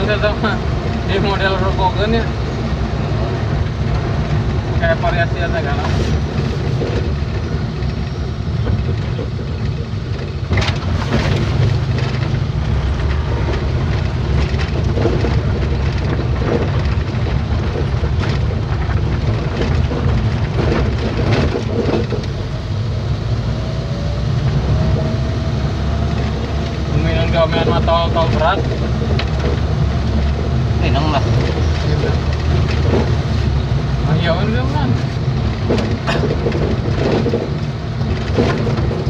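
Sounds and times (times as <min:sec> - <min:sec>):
vehicle engine and tyre noise: 0:00.0 - 0:39.0.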